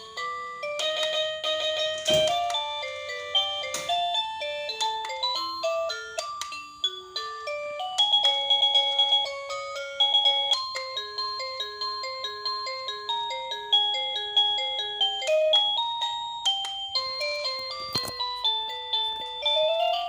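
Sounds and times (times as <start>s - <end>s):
doorbell chime melody: 0.0s - 20.0s.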